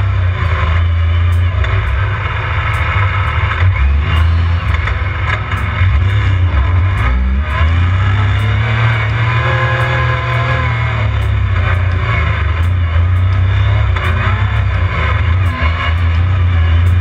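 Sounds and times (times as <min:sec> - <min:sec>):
utility vehicle engine under load: 0:00.0 - 0:17.0.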